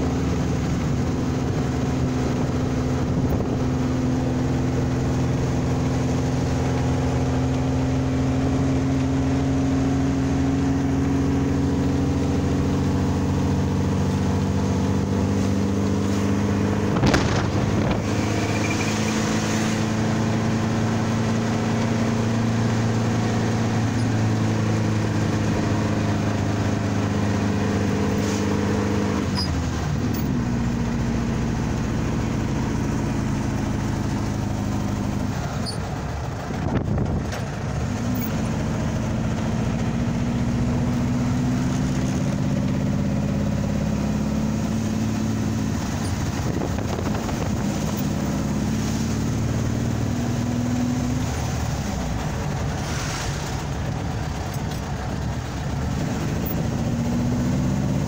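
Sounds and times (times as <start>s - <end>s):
dune buggy engine running: 0.0s - 58.0s
wind and road noise: 0.0s - 58.0s.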